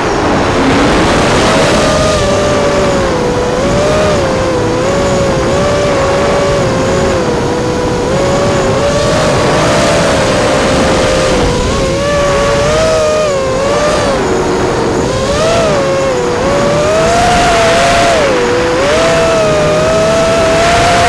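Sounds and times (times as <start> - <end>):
quadcopter motors whining: 0.0 - 21.0
rush of air and prop noise: 0.0 - 21.0.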